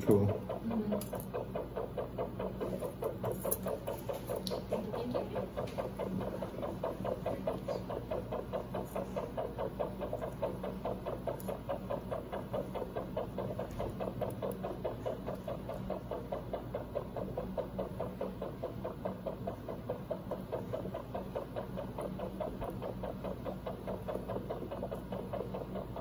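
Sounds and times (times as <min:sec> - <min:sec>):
heart monitor rapid beeping pulse: 0:00.0 - 0:26.0
steady low hum: 0:00.0 - 0:26.0.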